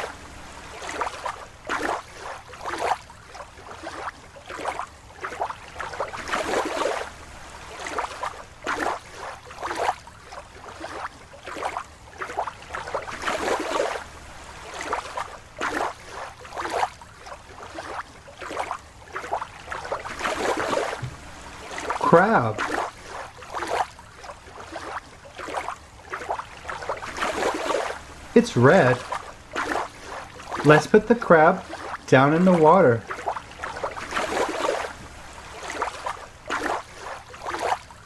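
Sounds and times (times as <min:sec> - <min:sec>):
water sloshing and splashing: 0:00.0 - 0:38.0.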